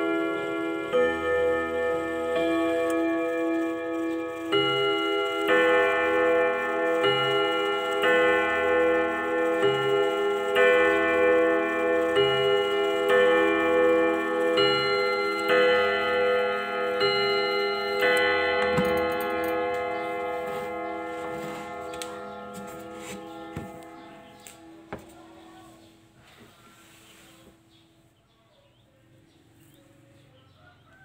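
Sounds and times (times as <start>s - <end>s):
clock chiming ding-dong on rod gongs: 0.0s - 25.8s.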